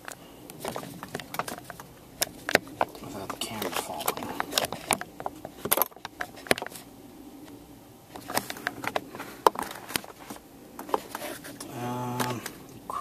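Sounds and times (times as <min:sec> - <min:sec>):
handling clicks and knocks: 0:00.0 - 0:06.9, 0:08.1 - 0:12.5.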